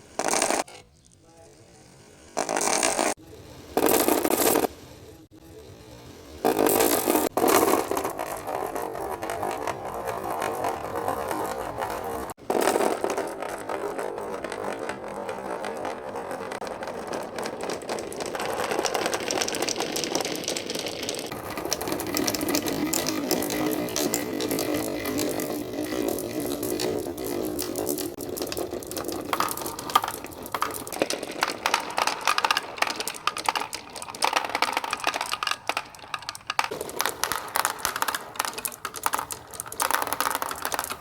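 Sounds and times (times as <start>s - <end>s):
marbles rolling down wooden run: 0.0s - 41.0s.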